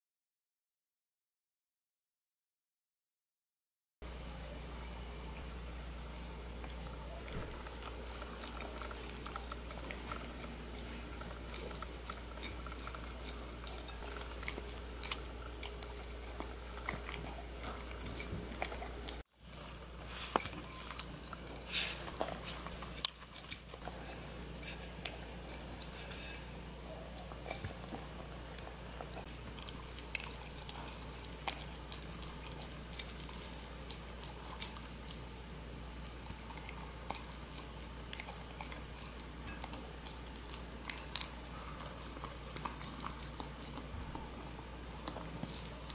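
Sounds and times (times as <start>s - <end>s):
dog chewing food: 5.3s - 45.9s.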